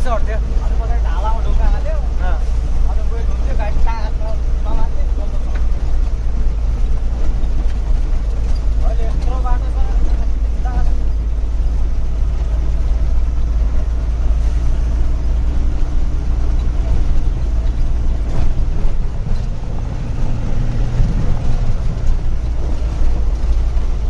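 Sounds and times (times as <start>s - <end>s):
truck engine rumble: 0.0s - 24.0s.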